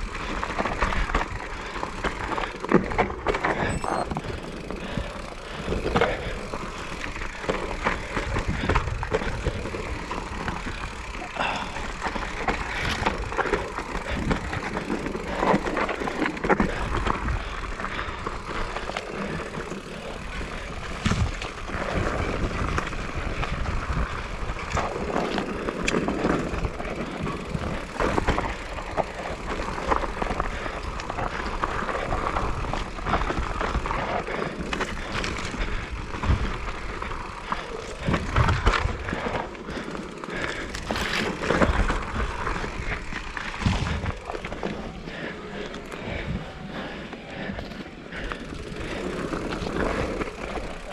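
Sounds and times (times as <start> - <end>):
bike rattling over bumps: 0.0 - 50.9
bike tyres on dirt and stones: 0.0 - 50.9.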